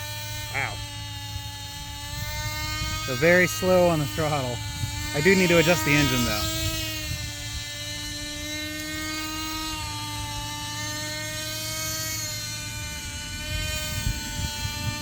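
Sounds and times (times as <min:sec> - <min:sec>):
model helicopter engine drone: 0:00.0 - 0:15.0.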